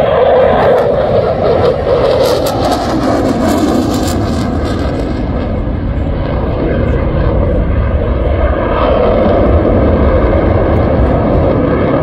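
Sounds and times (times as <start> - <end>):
fighter jet flying past: 0.0 - 12.0
jet engine crackle: 0.0 - 12.0.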